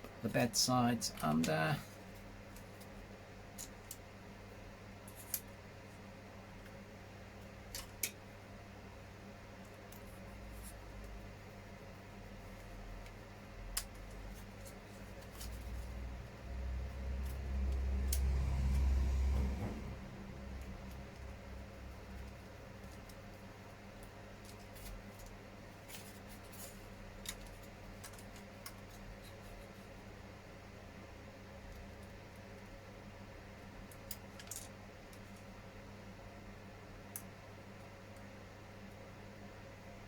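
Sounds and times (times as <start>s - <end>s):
low steady hum: 0.0s - 40.0s.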